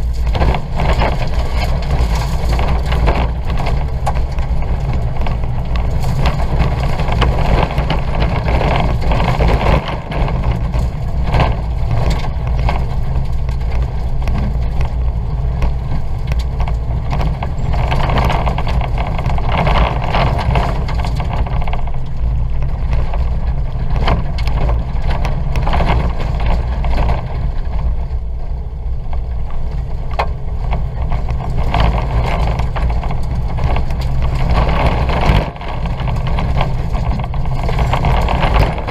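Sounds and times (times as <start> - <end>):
car engine running hard: 0.0 - 38.9
car rumbling on rough dirt: 0.0 - 38.9.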